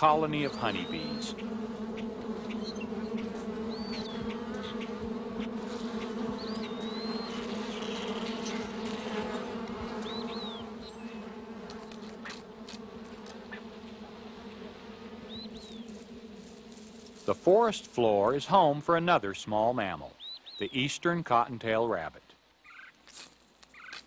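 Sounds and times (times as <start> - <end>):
honeybees buzzing: 0.0 - 22.1.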